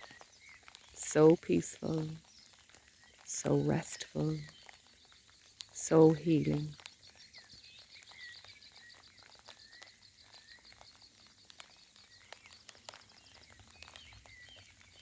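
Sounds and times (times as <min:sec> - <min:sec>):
bird chirps: 0:00.0 - 0:15.0
raindrops pattering: 0:00.0 - 0:15.0.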